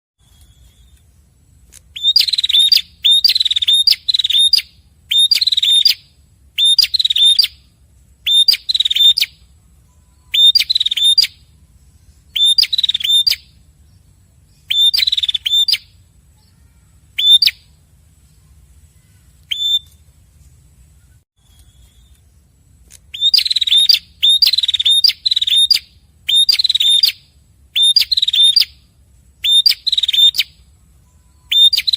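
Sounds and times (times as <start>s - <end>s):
faint low hum: 0.2s - 31.9s.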